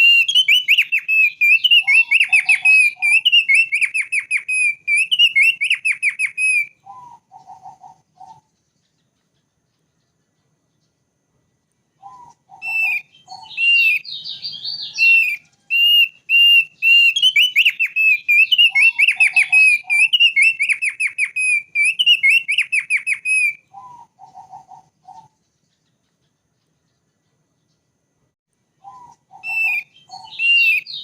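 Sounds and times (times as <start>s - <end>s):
bird singing whistled notes: 0.0s - 11.0s, 12.0s - 27.8s, 28.8s - 31.0s.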